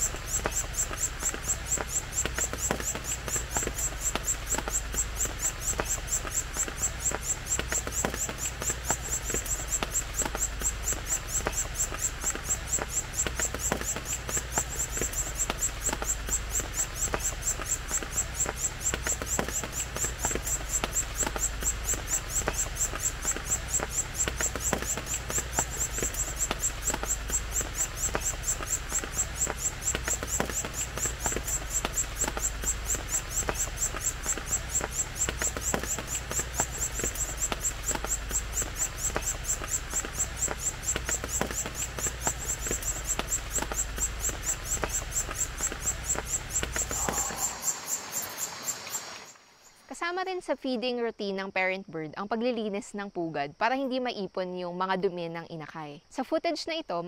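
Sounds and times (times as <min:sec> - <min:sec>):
insects trilling: 0:00.0 - 0:56.8.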